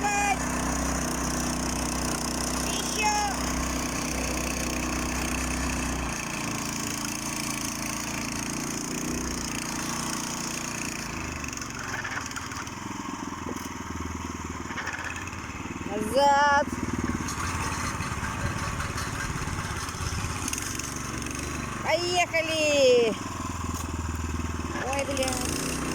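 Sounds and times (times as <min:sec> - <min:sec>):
scooter engine under load: 0:00.0 - 0:25.9.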